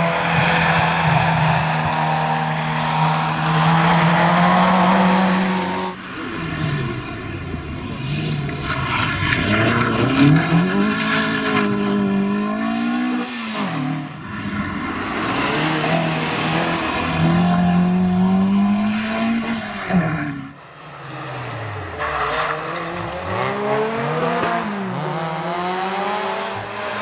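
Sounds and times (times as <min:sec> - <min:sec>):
car engine revving hard: 0:00.0 - 0:20.6, 0:21.5 - 0:27.0.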